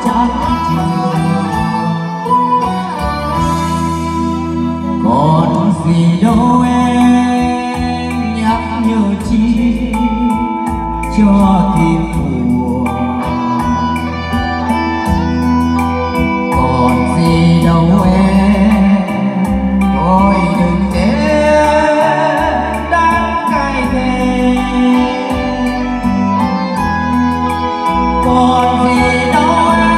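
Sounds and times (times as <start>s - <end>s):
karaoke backing track: 0.0s - 29.9s
man singing into microphone: 0.0s - 29.9s.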